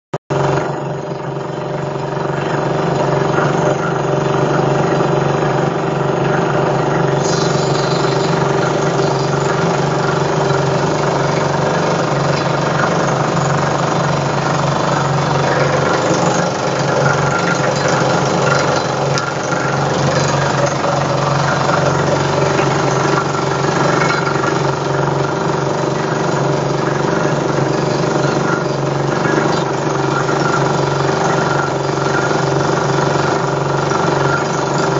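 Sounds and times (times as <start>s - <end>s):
constant machine hum: 0.3s - 34.9s
pneumatic drill rapid hammering: 0.3s - 34.9s.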